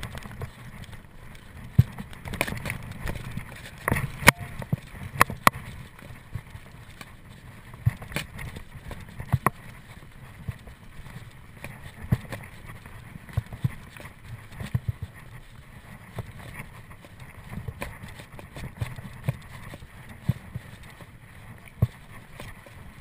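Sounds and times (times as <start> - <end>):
bike tyres rumbling on trail: 0.0 - 23.0.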